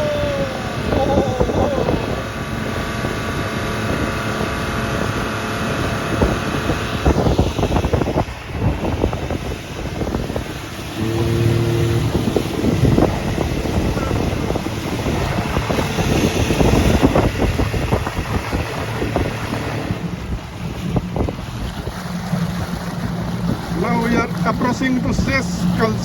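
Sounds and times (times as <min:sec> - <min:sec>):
motorboat engine: 0:00.0 - 0:26.0
wind buffeting microphone: 0:00.0 - 0:26.0.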